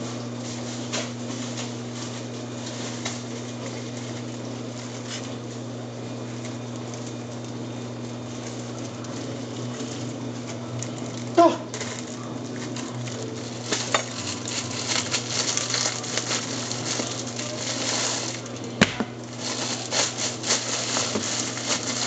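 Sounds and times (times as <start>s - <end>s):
steady low hum: 0.0s - 22.0s
plastic bag crinkling: 0.4s - 22.0s.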